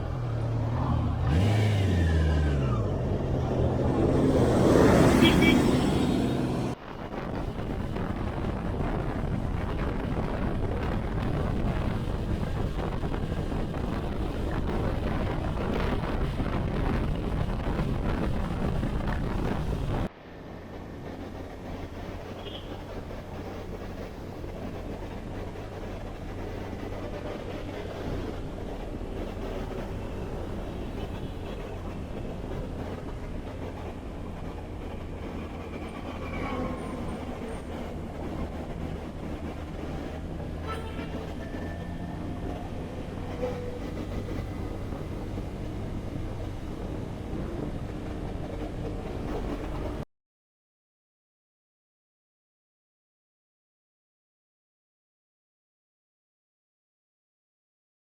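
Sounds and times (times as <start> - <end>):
motorcycle engine and road rumble: 0.0 - 50.0
wind buffeting microphone: 0.4 - 50.0.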